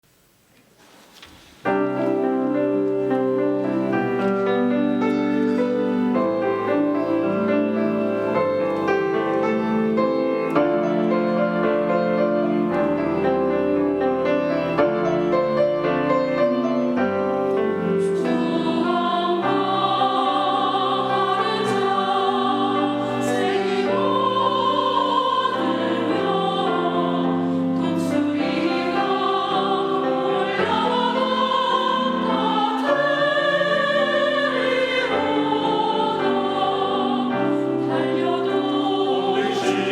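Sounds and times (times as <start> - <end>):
slow piano hymn: 0.1 - 39.9
classical singing with vibrato: 1.6 - 39.9.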